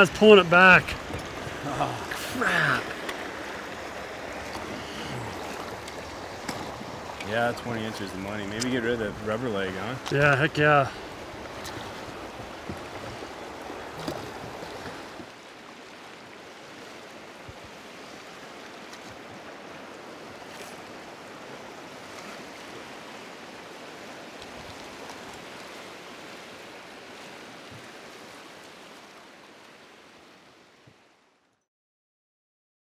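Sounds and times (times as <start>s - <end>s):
river water rushing over rapids: 0.0s - 31.2s.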